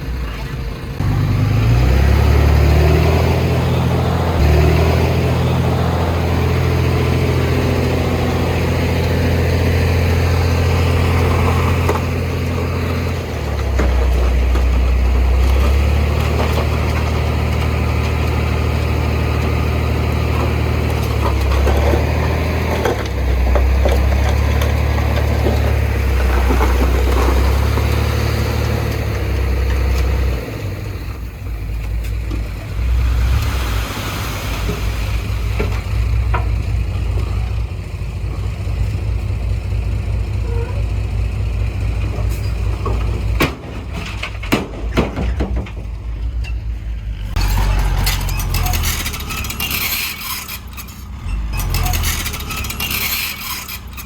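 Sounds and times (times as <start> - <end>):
diesel machinery engine rumble: 0.0 - 54.0.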